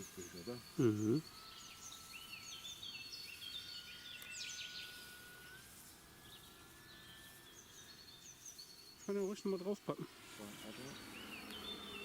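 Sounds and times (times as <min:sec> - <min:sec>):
faint high whine: 0:00.0 - 0:12.0
songbirds singing: 0:00.0 - 0:12.0.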